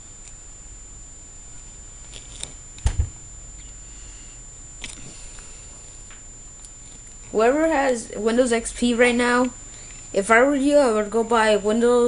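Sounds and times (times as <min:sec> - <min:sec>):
computer low hum: 0:00.0 - 0:12.0
thin high whine: 0:00.0 - 0:12.0.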